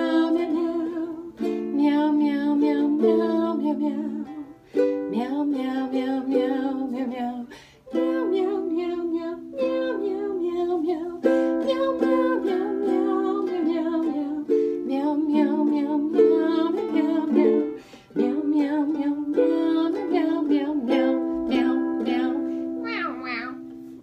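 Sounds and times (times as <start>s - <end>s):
person singing: 0.0s - 23.7s
ukulele strumming: 0.0s - 24.0s.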